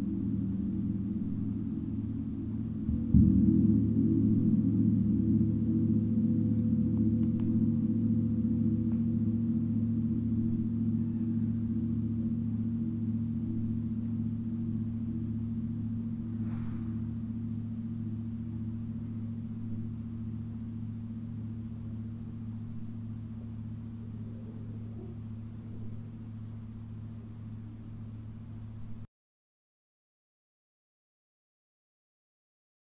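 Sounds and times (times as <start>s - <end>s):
gong ringing: 0.0s - 26.7s.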